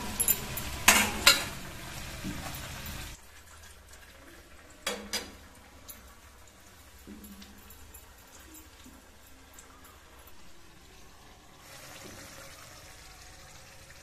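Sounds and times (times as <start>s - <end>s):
food sizzling in hot oil: 0.0s - 9.2s, 10.1s - 14.0s.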